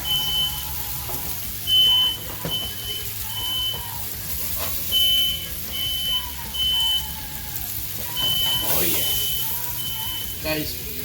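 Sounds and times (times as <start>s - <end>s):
smoke alarm beeping: 0.0s - 4.0s, 4.8s - 10.6s.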